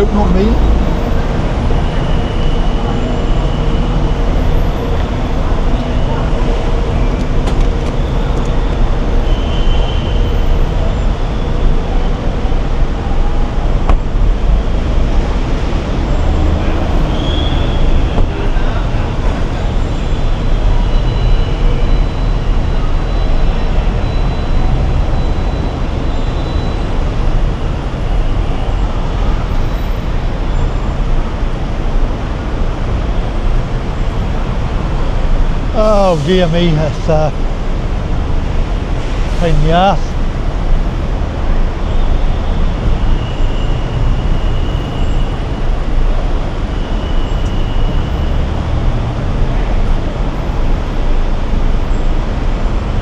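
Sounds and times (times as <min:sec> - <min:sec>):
vehicle interior road noise: 0:00.0 - 0:53.0.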